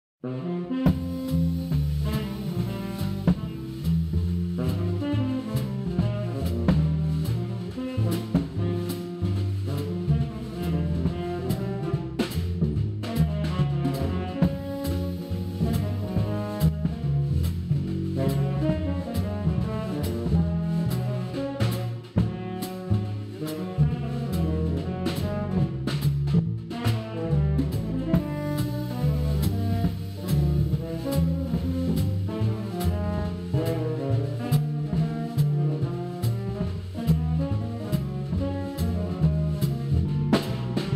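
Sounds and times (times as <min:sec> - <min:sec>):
jazz music: 0:00.2 - 0:40.9.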